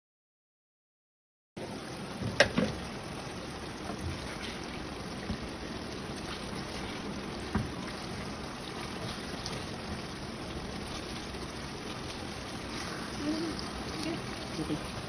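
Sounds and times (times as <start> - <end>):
food sizzling in a wok: 1.6 - 15.0.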